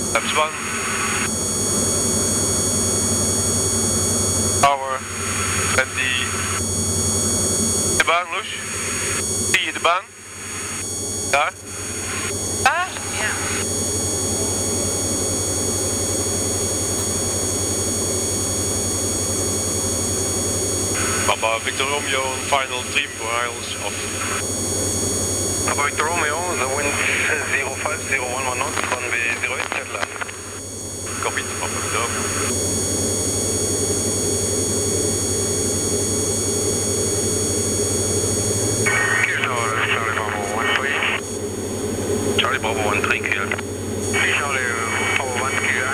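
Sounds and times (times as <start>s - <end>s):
aircraft engine and propeller drone: 0.0s - 45.9s
steady high whine: 0.0s - 45.9s.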